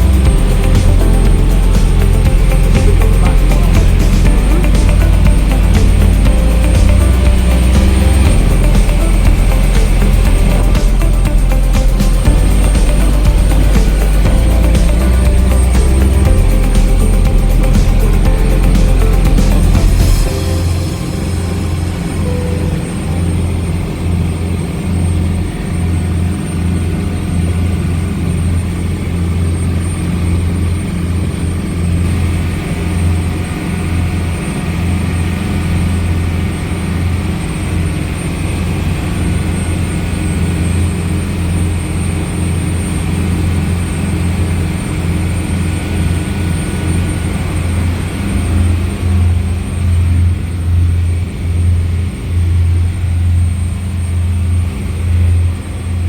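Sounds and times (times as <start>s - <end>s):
boat diesel engines droning: 0.0s - 56.0s
high engine whine: 0.0s - 56.0s.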